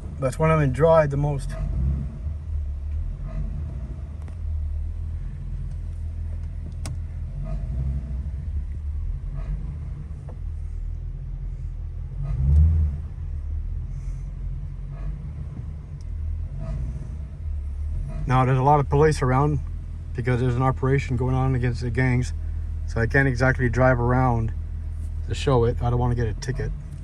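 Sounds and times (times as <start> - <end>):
car engine rumbling: 0.0 - 27.0.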